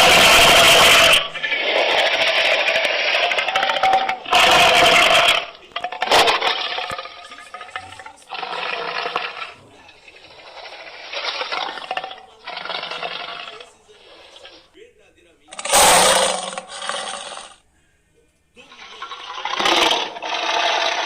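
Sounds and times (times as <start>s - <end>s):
monster roars and growls: 0.0s - 9.6s, 10.2s - 14.5s, 15.5s - 17.6s, 18.8s - 21.0s.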